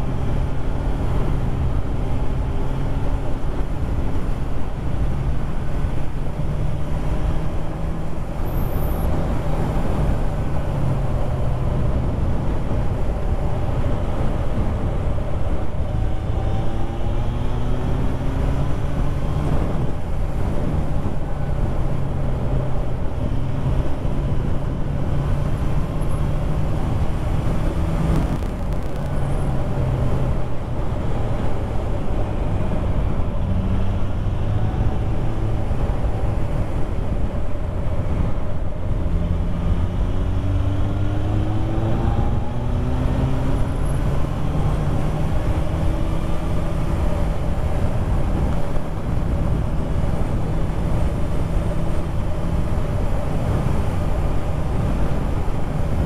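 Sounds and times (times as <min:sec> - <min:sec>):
wind noise: 0:00.0 - 0:56.0.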